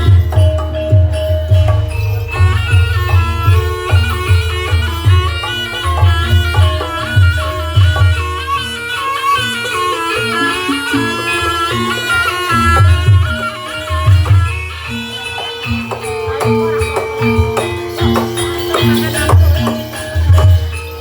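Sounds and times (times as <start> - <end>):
reedy wind instrument melody: 0.0 - 21.0.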